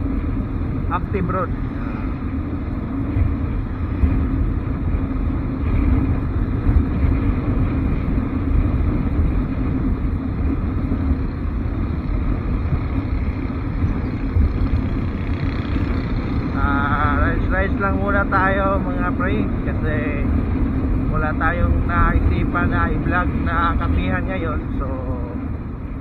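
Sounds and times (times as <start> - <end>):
motorcycle engine rumble: 0.0 - 26.0
wind noise: 0.0 - 26.0.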